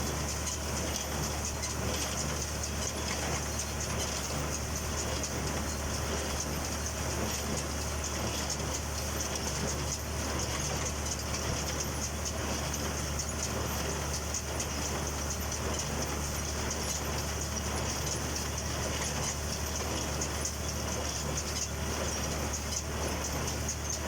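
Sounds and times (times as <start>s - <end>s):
tractor engine drone: 0.0s - 24.0s.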